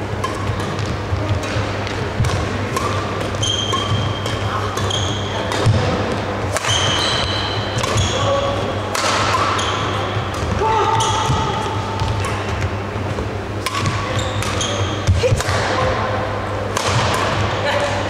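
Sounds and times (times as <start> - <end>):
steady low hum: 0.0 - 18.0
shoes squeaking on court floor: 0.2 - 15.2
racket striking shuttlecock: 0.2 - 18.0.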